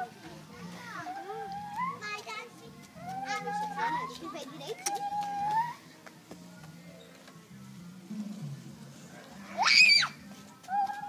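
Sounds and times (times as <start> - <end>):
faint yard background: 0.0 - 11.0.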